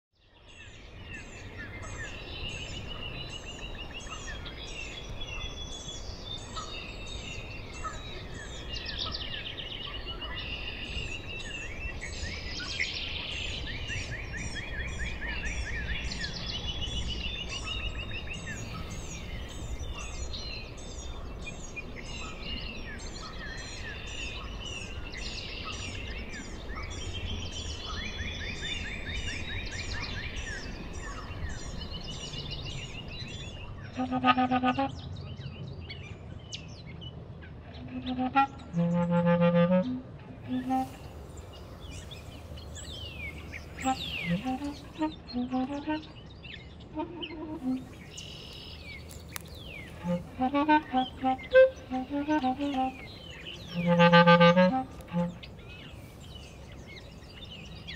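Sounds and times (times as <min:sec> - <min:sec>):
birds singing: 0:00.2 - 0:57.9.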